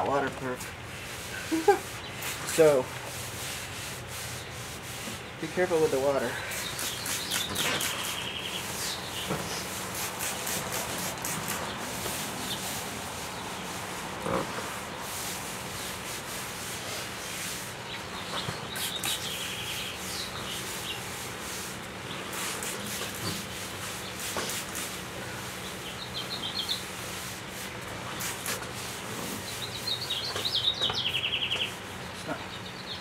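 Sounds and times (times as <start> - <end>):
birds chirping: 0.0 - 3.4, 4.1 - 33.0.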